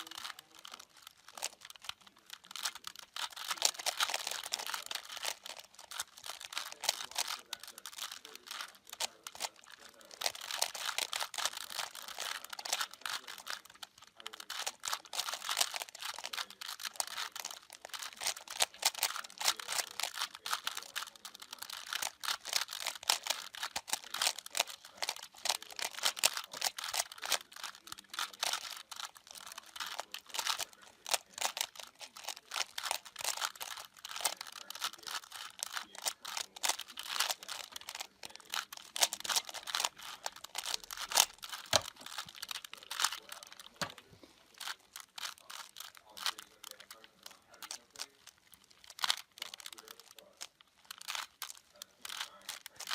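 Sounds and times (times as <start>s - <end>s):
puzzle cube plastic clicks: 0.0s - 52.9s.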